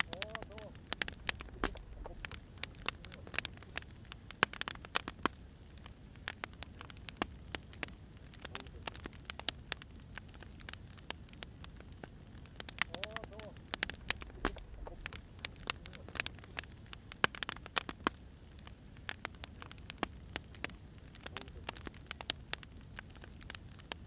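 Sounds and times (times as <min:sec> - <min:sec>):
fire hissing: 0:00.0 - 0:24.0
firewood crackling and popping: 0:00.0 - 0:24.0.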